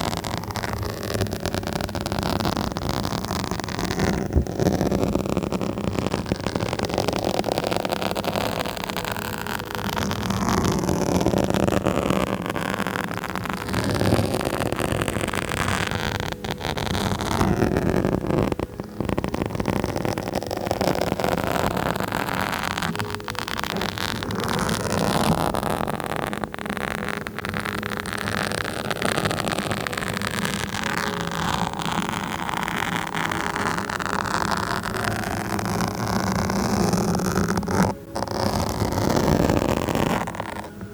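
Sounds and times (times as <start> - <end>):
scratching on a microphone: 0.0 - 40.9.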